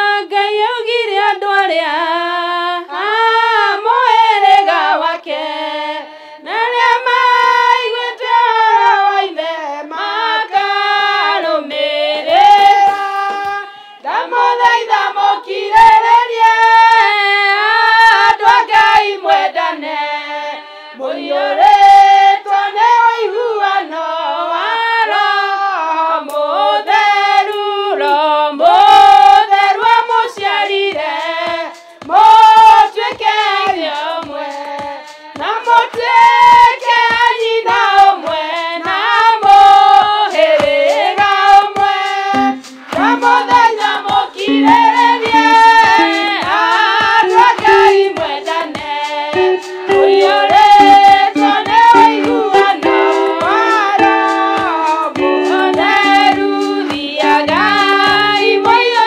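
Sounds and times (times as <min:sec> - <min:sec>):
women's choir singing a hymn: 0:00.0 - 0:59.0.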